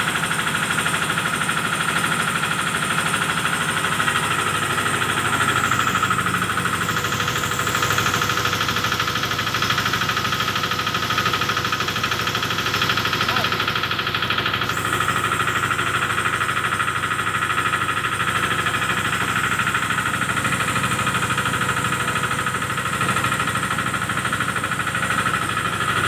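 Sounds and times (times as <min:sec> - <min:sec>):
grain mill pulsing hum: 0:00.0 - 0:26.0.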